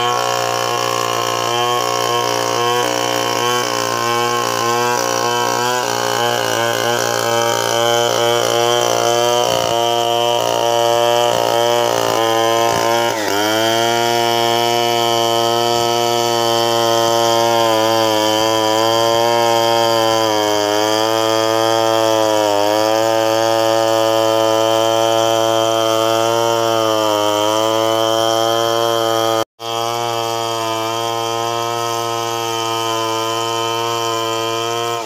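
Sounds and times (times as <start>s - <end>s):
chainsaw cutting through log: 0.0s - 35.0s.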